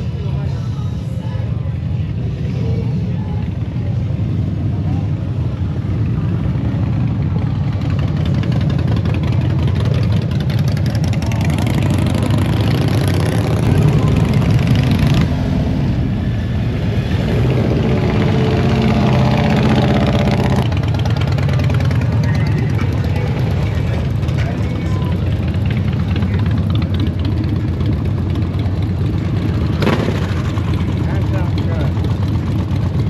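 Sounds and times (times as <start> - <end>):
motorcycles riding past: 1.6 - 33.0.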